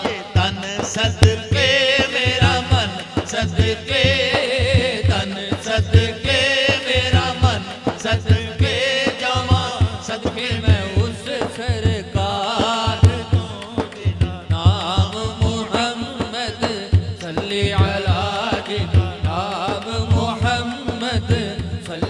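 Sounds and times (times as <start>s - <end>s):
men singing devotional song: 0.0s - 22.0s.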